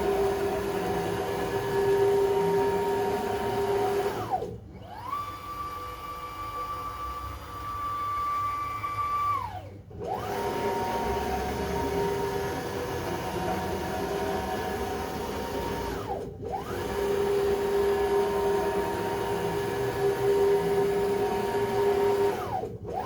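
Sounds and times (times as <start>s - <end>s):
cnc router motors whining: 0.0s - 23.0s.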